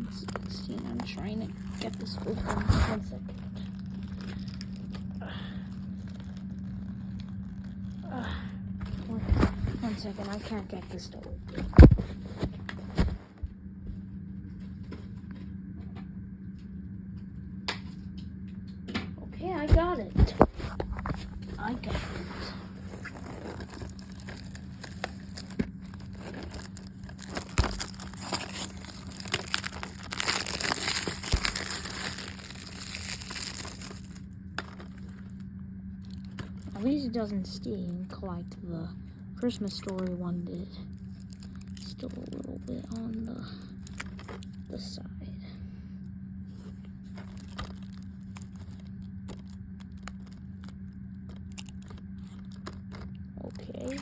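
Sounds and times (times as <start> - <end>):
shrink wrap crinkling and tearing: 0.0 - 8.2, 8.8 - 13.2, 19.5 - 38.5, 39.4 - 44.9, 46.5 - 54.0
steady low hum: 0.0 - 54.0.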